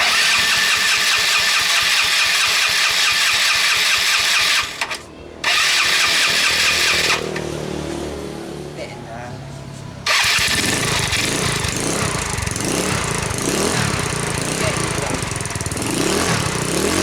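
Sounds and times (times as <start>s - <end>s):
loud scooter engine: 0.0s - 8.8s, 10.0s - 17.0s.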